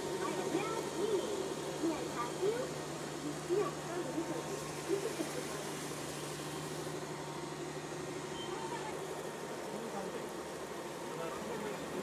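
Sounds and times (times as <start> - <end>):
floor-cleaning robot motor whir: 0.0 - 12.0.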